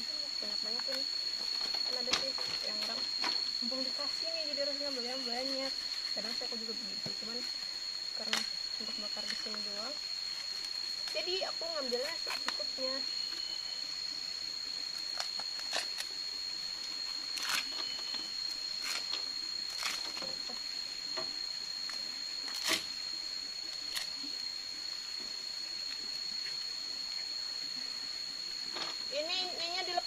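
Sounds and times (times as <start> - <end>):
steady high-pitched tone: 0.0 - 30.0.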